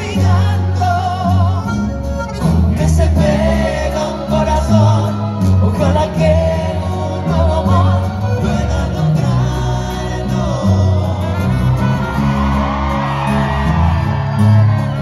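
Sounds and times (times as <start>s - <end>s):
band with guitars and violins: 0.0s - 15.0s
bass line: 0.0s - 15.0s.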